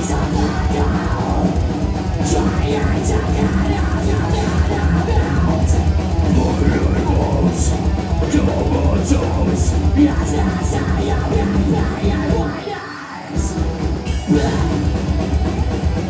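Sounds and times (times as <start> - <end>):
heavy metal band playing: 0.0 - 16.0.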